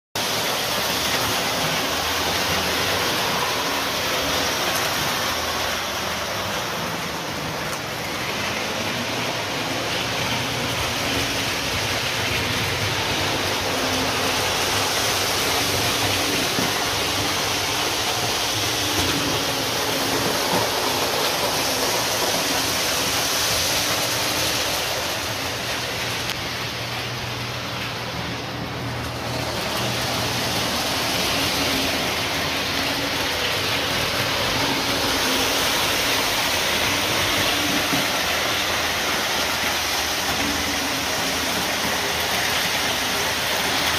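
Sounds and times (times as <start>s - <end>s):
model train wheels whirring: 0.2s - 43.9s.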